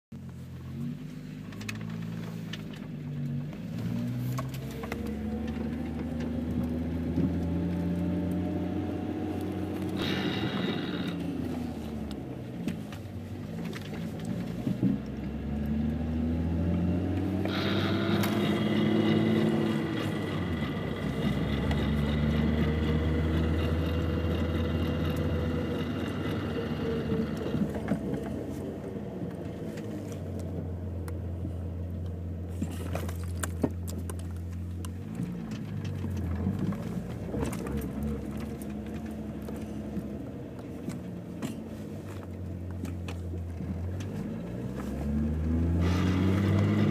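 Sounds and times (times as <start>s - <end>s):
car engine revving: 0.4s - 46.9s.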